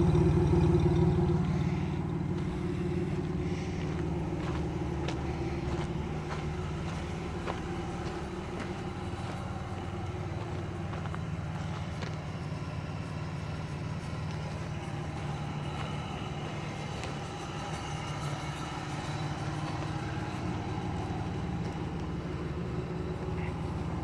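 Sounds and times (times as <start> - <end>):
car engine misfiring: 0.0 - 24.0.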